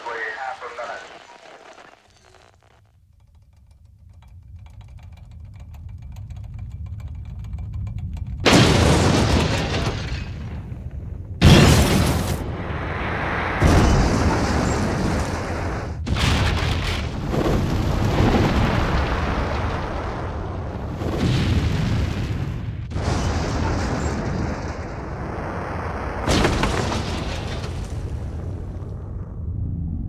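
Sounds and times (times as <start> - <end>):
explosion roar and rumble: 0.0 - 2.4, 5.3 - 30.0.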